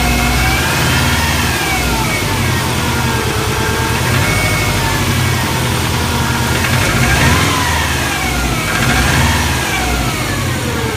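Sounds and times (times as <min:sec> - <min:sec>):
car engine idling with knock: 0:00.0 - 0:10.9
engine revving: 0:00.0 - 0:10.9.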